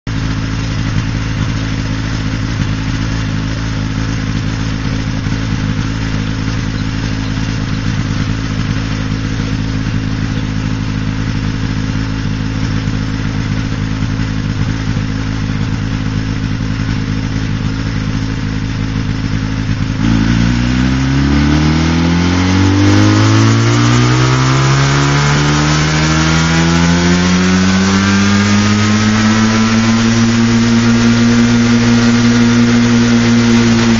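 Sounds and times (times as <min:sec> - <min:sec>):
helicopter engine idling and revving: 0:00.0 - 0:33.9.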